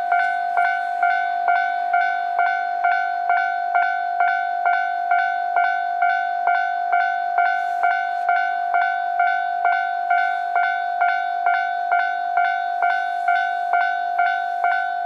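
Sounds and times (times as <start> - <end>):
level crossing alarm ringing: 0.0 - 15.0.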